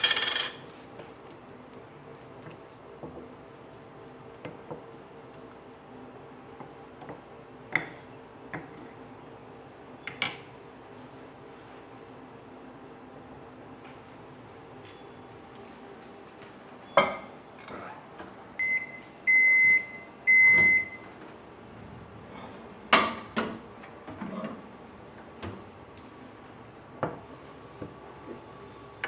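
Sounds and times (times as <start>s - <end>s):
microwave oven hum: 0.0s - 29.0s.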